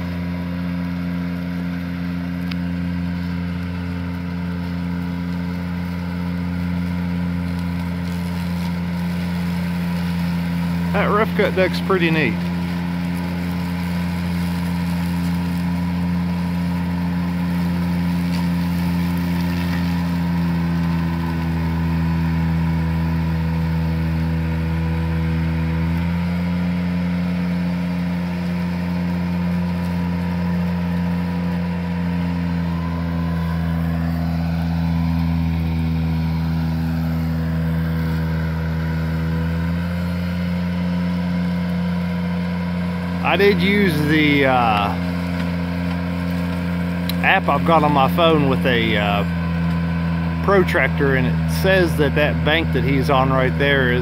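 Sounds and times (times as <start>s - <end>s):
tractor mower engine running: 0.0s - 54.0s.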